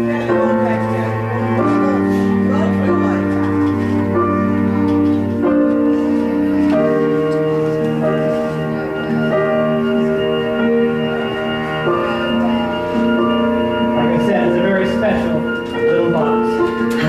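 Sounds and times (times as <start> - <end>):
sustained music chords: 0.0 - 17.0.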